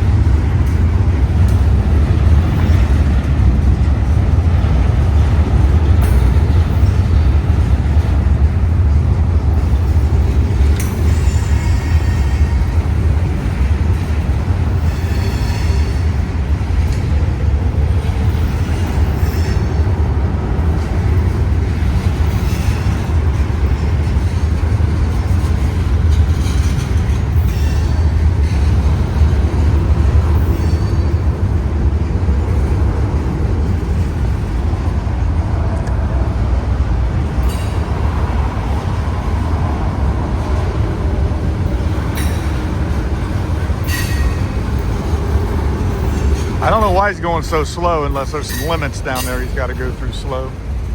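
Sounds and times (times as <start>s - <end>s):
train wheels clicking: 0.0s - 36.2s, 37.1s - 50.9s
freight train rumbling on rails: 0.0s - 50.9s.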